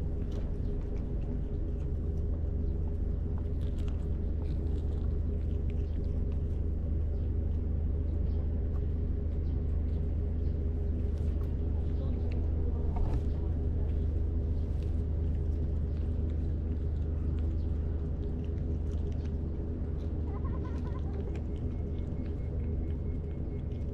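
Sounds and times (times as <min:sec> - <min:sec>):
cat chewing fish: 0:00.0 - 0:23.9
low engine hum: 0:00.0 - 0:23.9.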